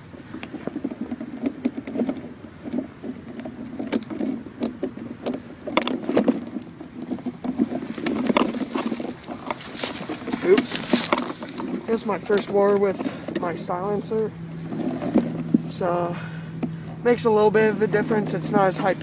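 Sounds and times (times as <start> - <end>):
dry branches crackling and rustling: 0.0 - 19.0.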